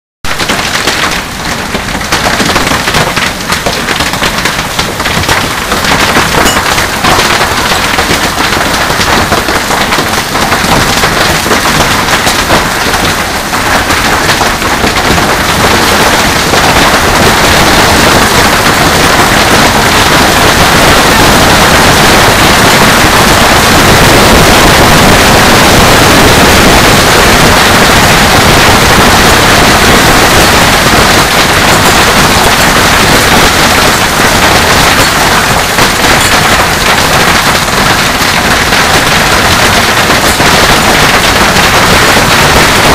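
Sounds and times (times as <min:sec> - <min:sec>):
hail clattering on hard surfaces: 0:00.3 - 0:42.9.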